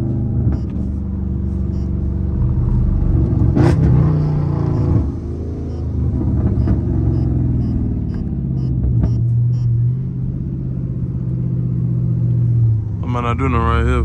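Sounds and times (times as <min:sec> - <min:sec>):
car exhaust note low and steady: 0:00.0 - 0:14.0.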